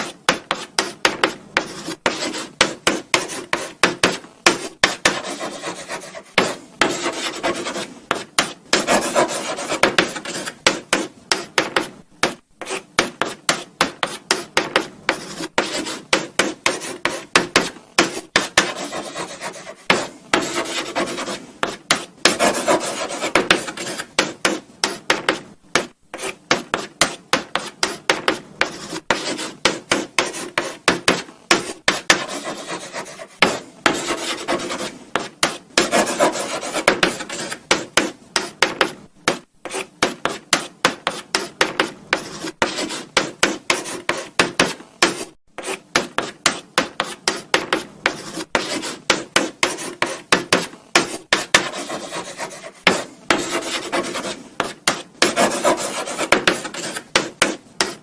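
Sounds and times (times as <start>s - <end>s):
chalk scratching on blackboard: 0.0s - 58.0s.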